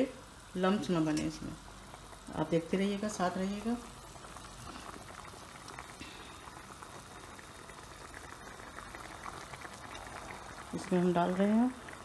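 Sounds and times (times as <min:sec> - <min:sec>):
thick gravy bubbling in a pot: 0:00.3 - 0:12.0.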